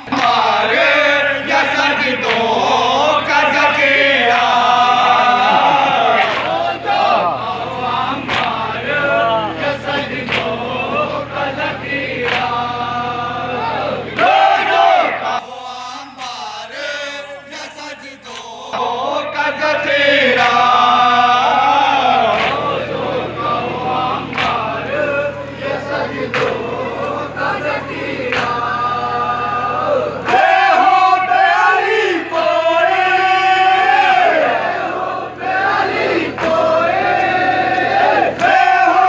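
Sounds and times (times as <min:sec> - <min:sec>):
men chanting together: 0:00.0 - 0:39.0.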